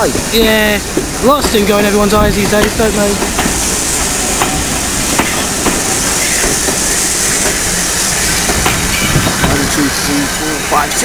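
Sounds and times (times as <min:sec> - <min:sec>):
steady high hiss: 0:00.0 - 0:11.0
train wheels clicking over rail joints: 0:00.0 - 0:11.0.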